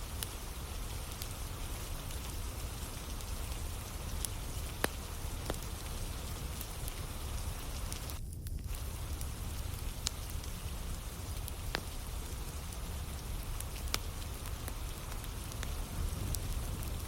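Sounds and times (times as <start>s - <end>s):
campfire crackling: 0.0s - 17.0s
steady rain: 0.0s - 17.0s.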